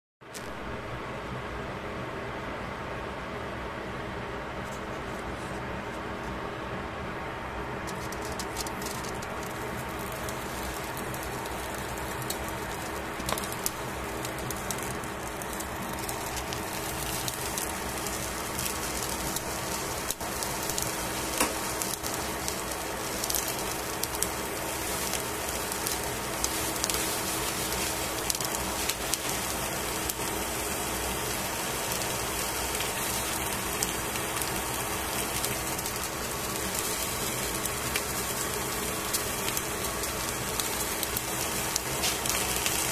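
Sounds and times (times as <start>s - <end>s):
faint steady hum: 0.2s - 42.9s
steady hiss: 4.5s - 42.9s
crackles of aluminium foil: 7.8s - 42.9s.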